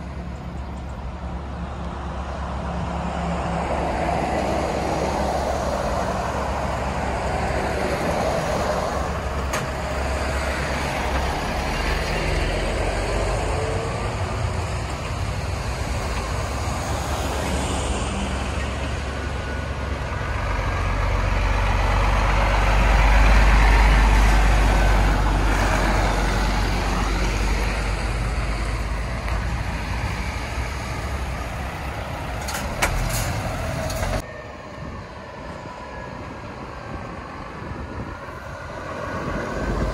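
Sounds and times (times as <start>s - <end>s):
lorries driving past: 0.0s - 39.9s.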